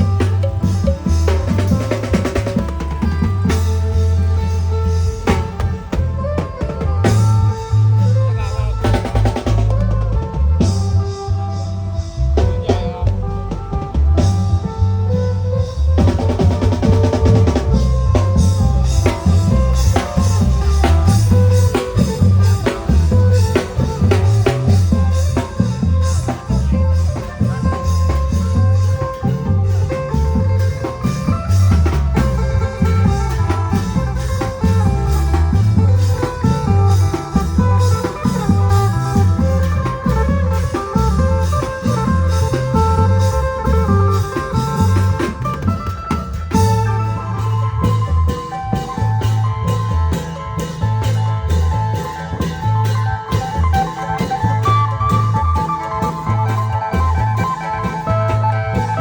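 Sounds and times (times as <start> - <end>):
drum band playing: 0.0 - 59.0.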